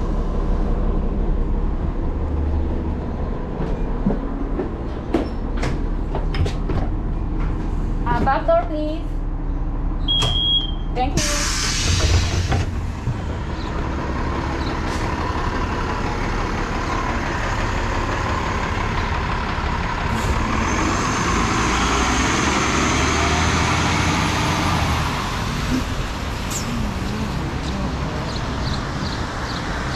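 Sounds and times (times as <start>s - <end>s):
bus engine and road noise: 0.0s - 29.9s.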